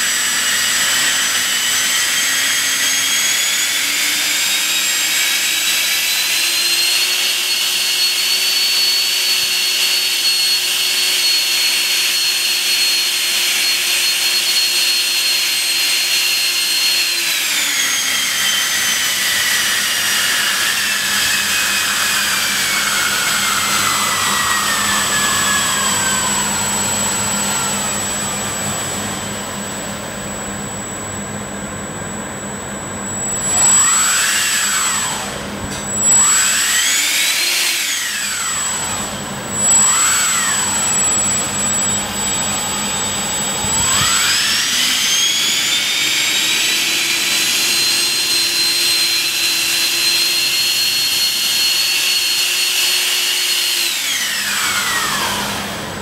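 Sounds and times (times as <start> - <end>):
electric ducted fan whining: 0.0 - 56.0.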